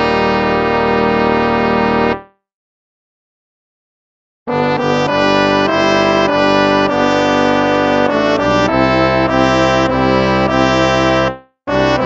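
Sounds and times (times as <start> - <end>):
brass hymn music: 0.0 - 2.4, 4.5 - 12.0.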